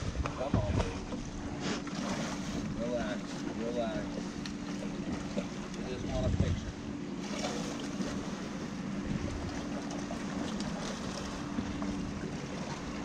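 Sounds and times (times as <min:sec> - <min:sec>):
boat motor humming: 0:00.0 - 0:13.0
wind and water hiss: 0:00.0 - 0:13.0.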